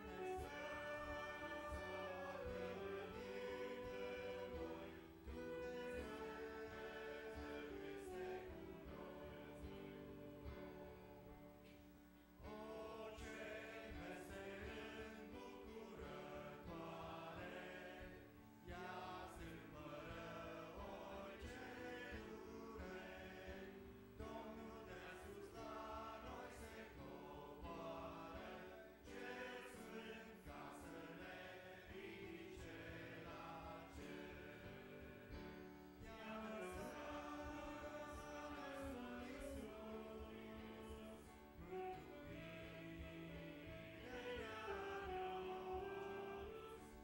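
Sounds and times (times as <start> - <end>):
congregation singing a hymn: 0.0 - 47.0.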